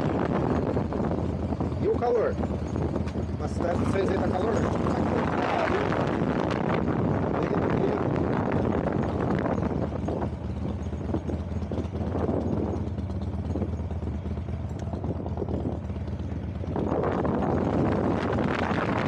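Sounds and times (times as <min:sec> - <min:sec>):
wind rushing over microphone: 0:00.0 - 0:13.7, 0:14.8 - 0:19.0
vehicle engine humming: 0:00.0 - 0:19.0.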